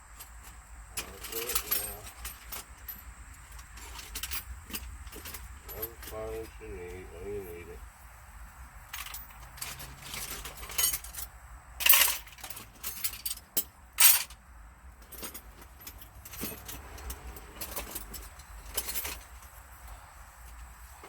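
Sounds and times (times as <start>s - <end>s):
metal tools clinking and rattling: 0.1s - 7.0s, 8.8s - 14.4s, 15.0s - 19.8s.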